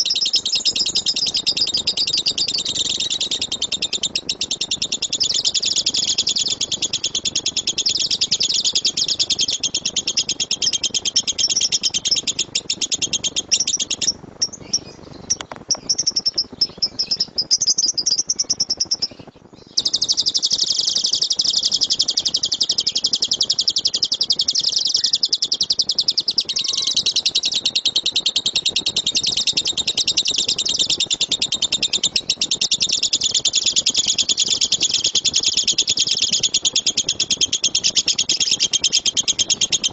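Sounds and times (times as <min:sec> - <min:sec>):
lovebird fast high chirps: 0:00.0 - 0:39.9.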